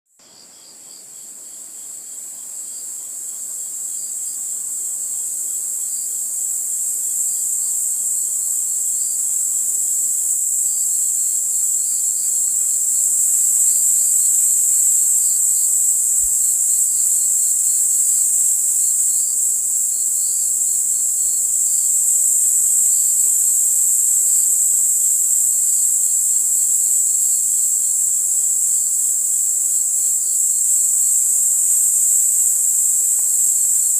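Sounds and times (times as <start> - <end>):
faint insect chirps: 0.1 - 33.9
crickets trilling: 0.2 - 33.9.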